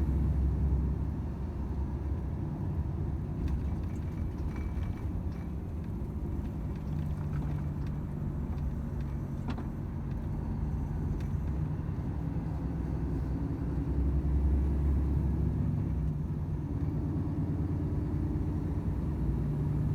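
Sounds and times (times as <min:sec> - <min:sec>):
road rumble: 0:00.0 - 0:19.9.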